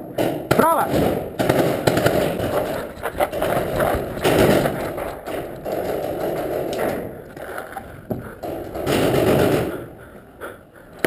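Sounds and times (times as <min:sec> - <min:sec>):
sharp thumps: 0:00.0 - 0:10.1
scuffs and knocks: 0:00.9 - 0:09.8.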